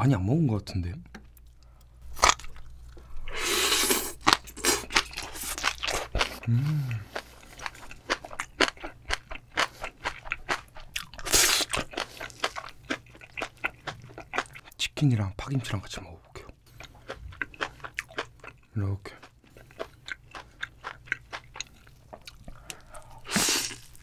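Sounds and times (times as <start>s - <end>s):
crunchy food chewing: 2.2s - 14.8s, 16.4s - 24.0s.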